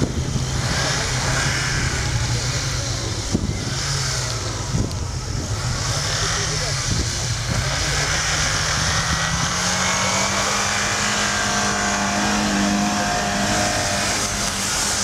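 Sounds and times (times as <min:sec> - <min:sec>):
car engine revving high: 0:00.0 - 0:15.0
wheels spinning in snow: 0:00.0 - 0:15.0.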